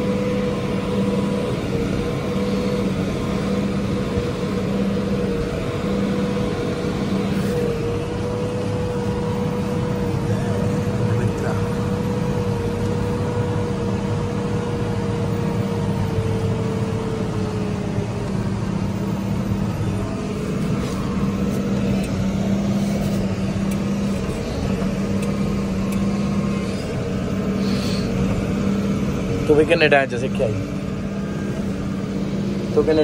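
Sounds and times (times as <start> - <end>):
steady whine: 0.0 - 33.0
tractor diesel engine under load: 0.0 - 33.0.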